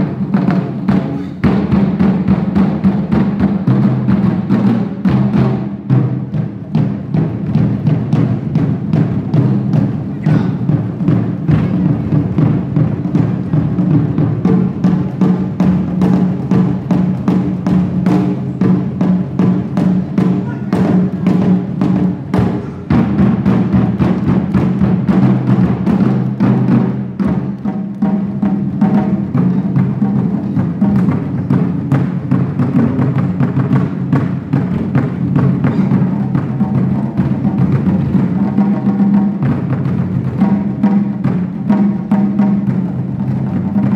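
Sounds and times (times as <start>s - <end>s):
drum ensemble playing fast rhythm: 0.0s - 43.9s.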